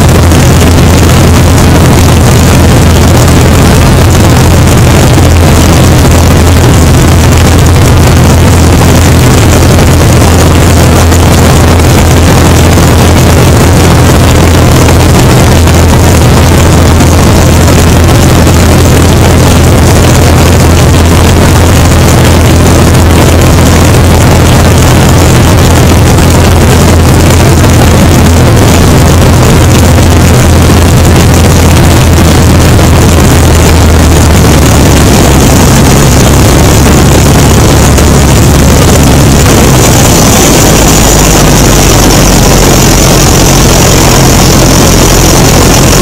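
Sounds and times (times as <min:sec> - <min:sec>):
propeller plane engine running: 0:00.0 - 0:46.0
wind rush over microphone: 0:00.0 - 0:46.0.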